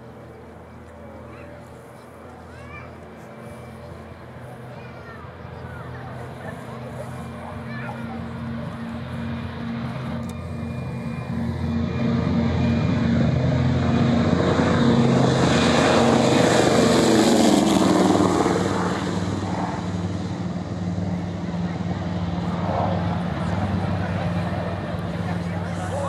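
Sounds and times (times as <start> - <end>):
propeller plane taking off: 0.0 - 26.0.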